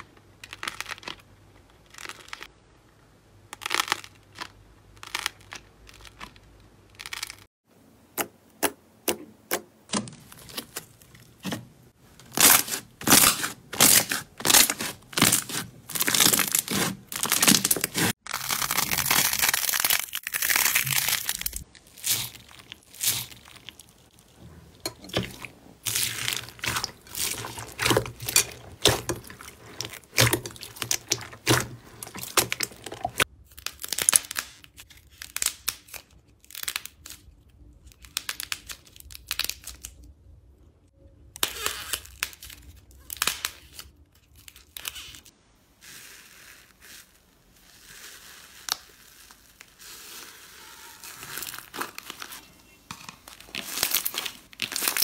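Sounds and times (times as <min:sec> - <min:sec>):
slime crackling and squishing: 0:00.0 - 0:02.6, 0:03.4 - 0:07.5, 0:09.9 - 0:40.0, 0:41.4 - 0:55.0.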